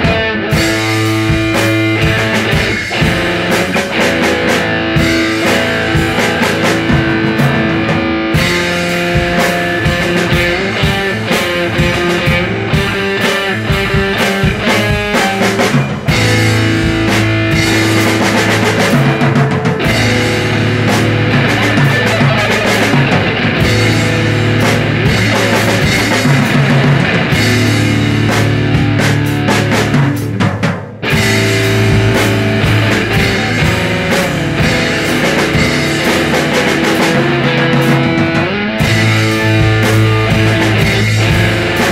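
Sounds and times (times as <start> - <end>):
drum kit: 0.0 - 41.9
garage rock guitar: 0.0 - 41.9.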